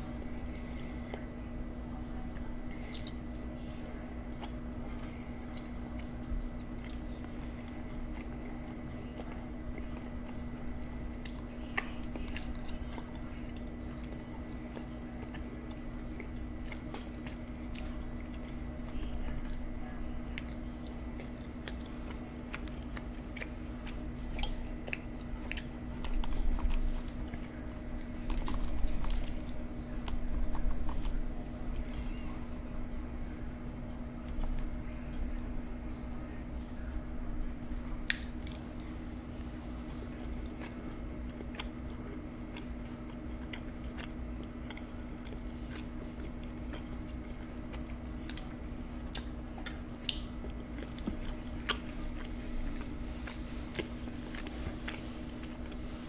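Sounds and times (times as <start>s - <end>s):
chewing and mouth sounds: 0.0s - 32.6s, 34.0s - 36.9s, 37.5s - 56.0s
steady low hum: 0.0s - 56.0s.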